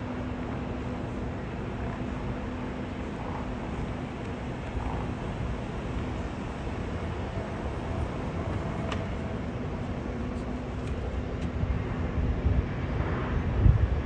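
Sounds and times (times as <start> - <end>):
faint constant hum: 0.0 - 14.0
jet engines rumbling: 0.0 - 14.0.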